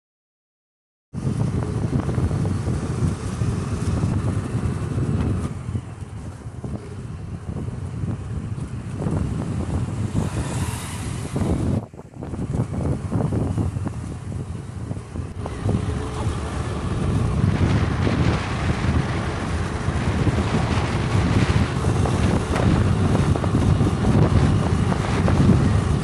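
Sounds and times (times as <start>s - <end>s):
engine and road rumble: 1.1s - 26.0s
wind buffeting microphone: 1.2s - 26.0s.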